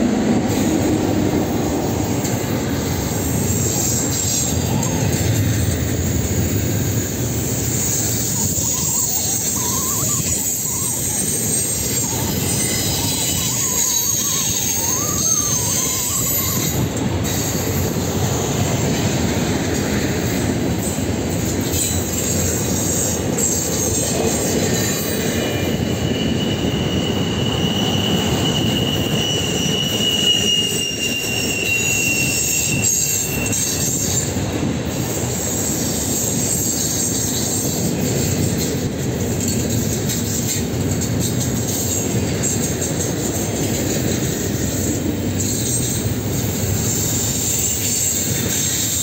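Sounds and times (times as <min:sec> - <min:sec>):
freight train wheels on rails: 0:00.0 - 0:49.0
high wheel squeal: 0:02.0 - 0:19.0, 0:21.5 - 0:49.0.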